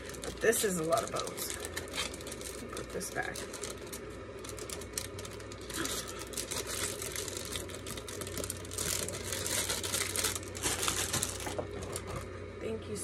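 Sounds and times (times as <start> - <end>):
packaging rustling and crinkling: 0.0 - 12.3.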